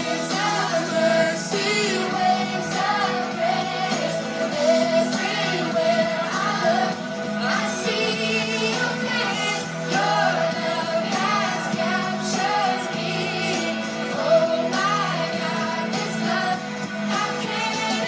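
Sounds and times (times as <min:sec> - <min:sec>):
upbeat worship song: 0:00.0 - 0:18.0.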